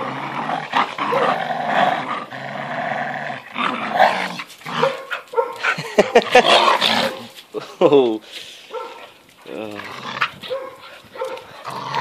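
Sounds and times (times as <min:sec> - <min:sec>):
dogs growling: 0:00.0 - 0:07.3, 0:08.7 - 0:12.0.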